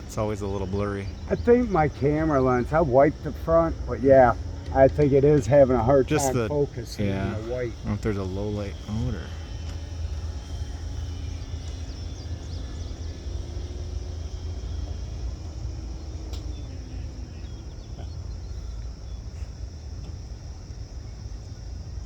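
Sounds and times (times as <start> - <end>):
crickets chirping: 0.0 - 22.0
model plane propeller drone: 0.0 - 22.0
steady low rumble: 0.0 - 22.0.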